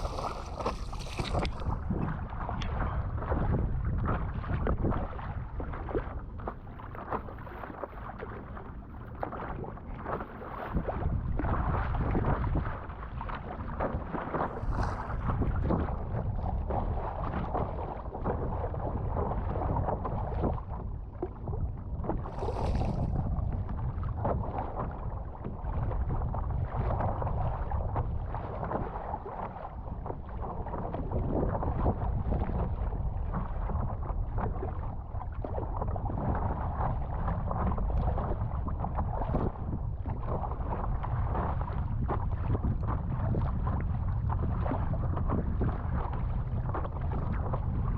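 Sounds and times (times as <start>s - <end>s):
water sloshing against paddle board: 0.0s - 47.9s
wind buffeting microphone: 0.0s - 47.9s.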